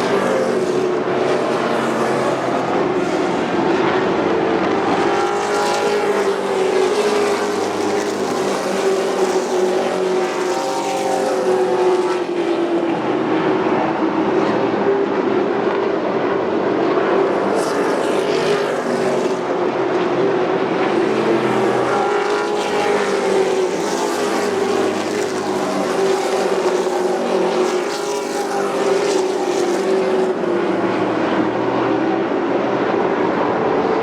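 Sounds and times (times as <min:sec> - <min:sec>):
racing truck engines droning: 0:00.0 - 0:34.0.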